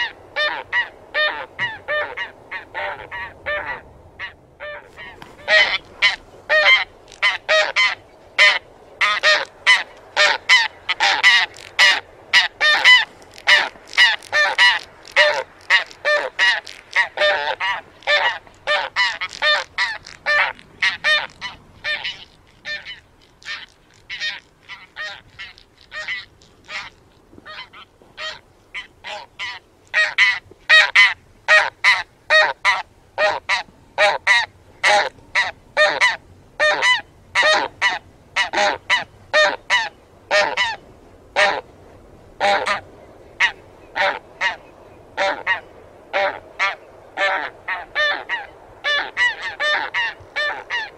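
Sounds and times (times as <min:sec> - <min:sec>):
geese honking in flight: 0:00.0 - 0:26.9, 0:27.5 - 0:40.8, 0:41.4 - 0:41.6, 0:42.4 - 0:42.8, 0:43.4 - 0:44.6, 0:45.2 - 0:50.9.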